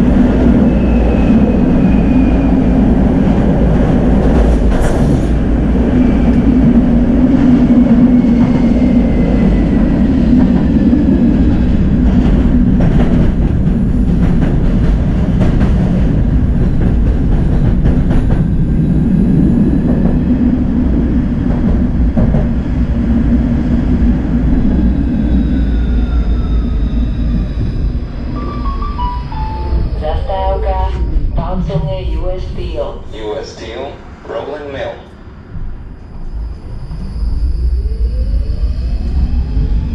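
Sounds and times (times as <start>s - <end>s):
tram wheels rumbling on rail: 0.0s - 39.9s.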